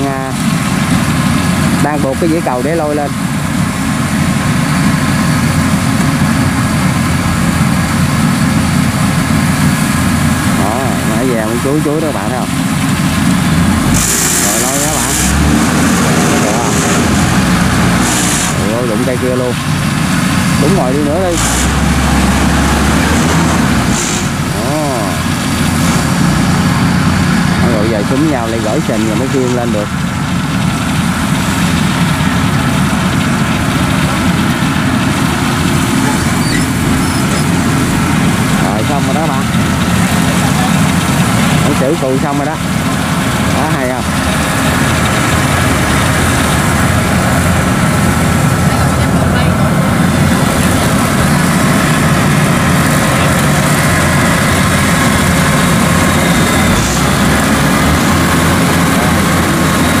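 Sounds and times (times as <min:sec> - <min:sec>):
diesel engine rumbling: 0:00.0 - 1:00.0.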